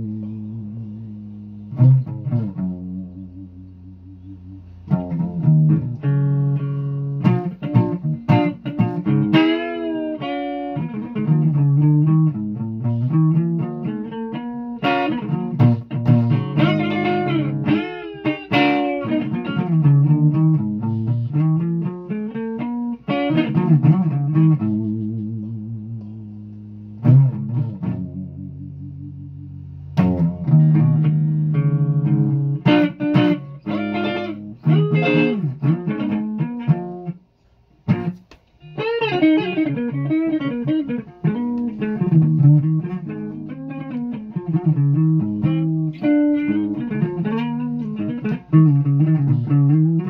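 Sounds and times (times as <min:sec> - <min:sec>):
solo guitar melody: 0:00.0 - 0:50.0.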